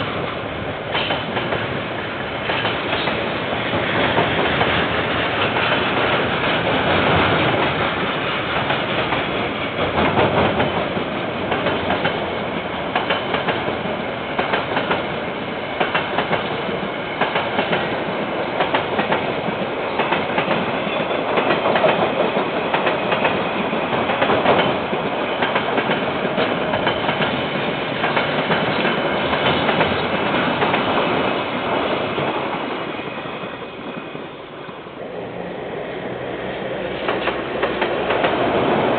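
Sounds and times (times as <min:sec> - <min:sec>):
train wheels clicking over rail joints: 0:00.9 - 0:01.8, 0:02.4 - 0:32.7, 0:36.9 - 0:38.9.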